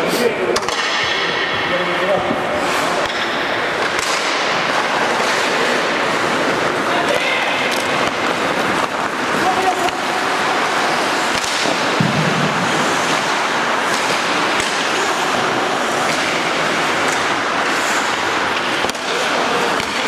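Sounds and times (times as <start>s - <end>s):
hockey sticks and puck clicking: 0.6s - 1.2s, 2.6s - 20.0s
steady rushing noise: 1.3s - 20.0s.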